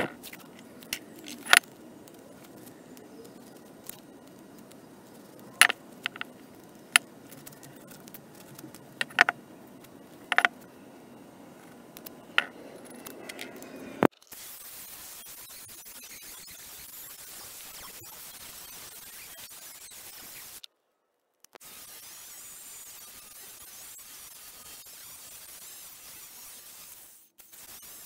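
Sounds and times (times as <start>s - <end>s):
steady hiss: 0.0s - 20.6s, 21.6s - 28.0s.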